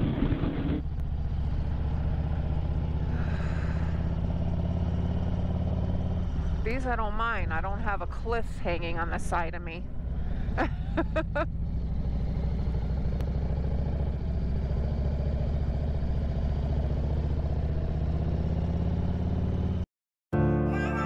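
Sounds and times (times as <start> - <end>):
motorcycle engine droning: 0.0 - 19.8.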